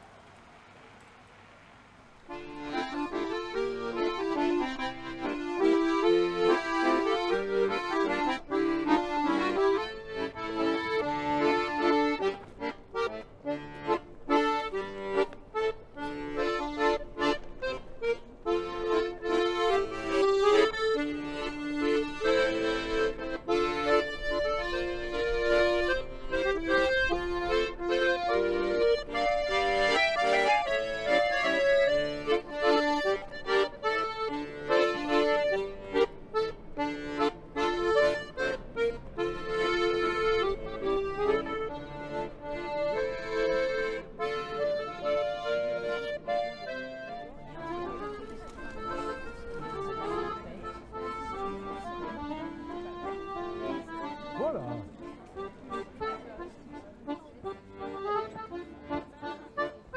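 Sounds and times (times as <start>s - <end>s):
button accordion playing tune: 2.3s - 59.9s.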